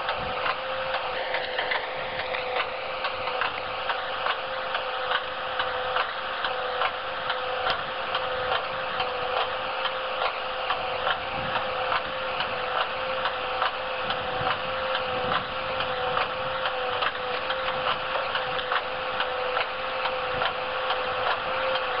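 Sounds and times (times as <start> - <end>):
hydraulic cutting head whining: 0.0 - 22.0.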